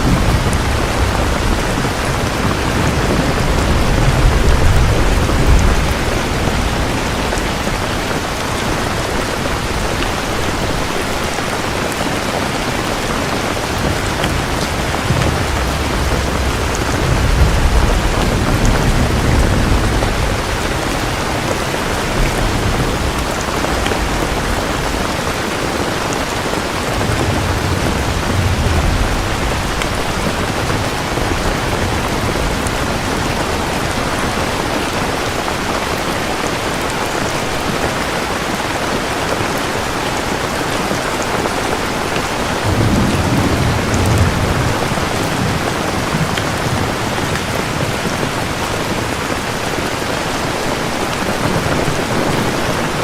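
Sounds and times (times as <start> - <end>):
thunder rolling: 0.0 - 36.0, 42.3 - 53.0
steady rain: 0.0 - 53.0.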